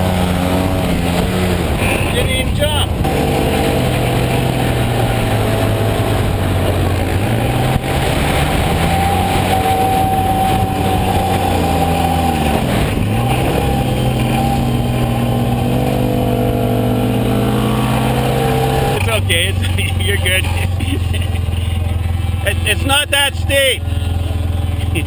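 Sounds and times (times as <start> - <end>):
vehicle engine under throttle: 0.0 - 25.0.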